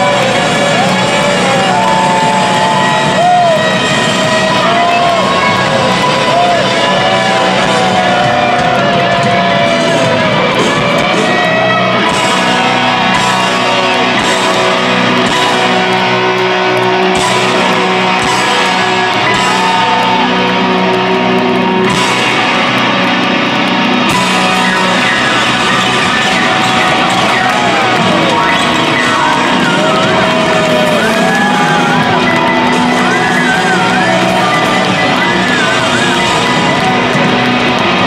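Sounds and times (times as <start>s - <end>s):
electric guitar solo: 0.0s - 38.0s
live rock band: 0.0s - 38.0s.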